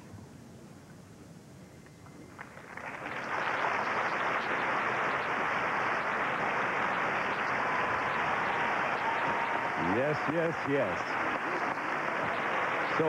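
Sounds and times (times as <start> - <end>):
large crowd applauding: 2.3 - 13.0.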